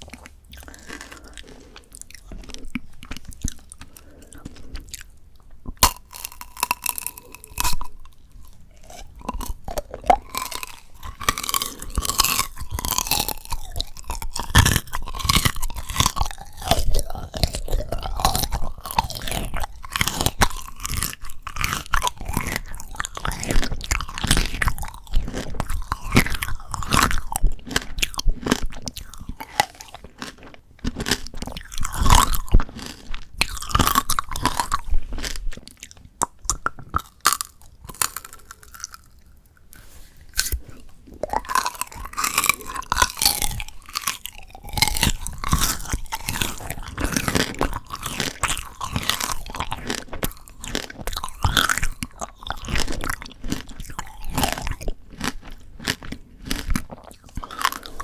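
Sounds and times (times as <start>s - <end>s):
crunching candied fruit: 0.0s - 58.0s.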